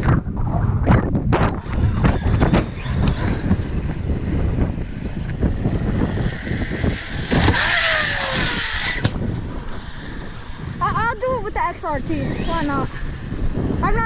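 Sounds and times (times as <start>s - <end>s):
electric rc car motor whine: 1.0s - 14.0s.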